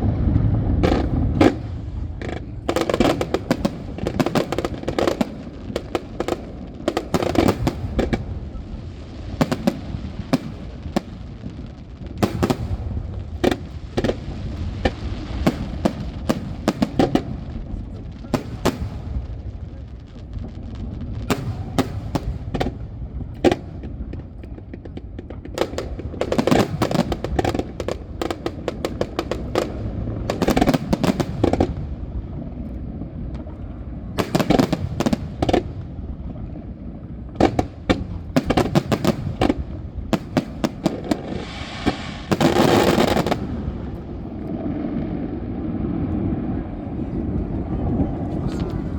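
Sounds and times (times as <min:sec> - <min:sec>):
fireworks crackling: 0:00.0 - 0:48.9
steady low rumble: 0:00.0 - 0:48.9.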